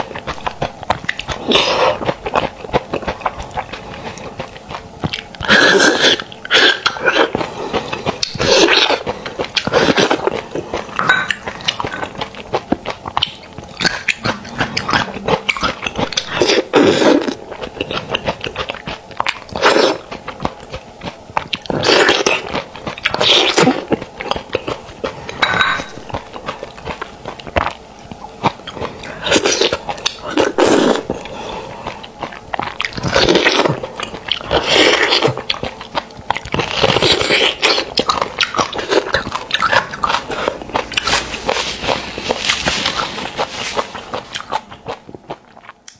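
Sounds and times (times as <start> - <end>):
chewing with lip smacks: 0.0 - 45.9.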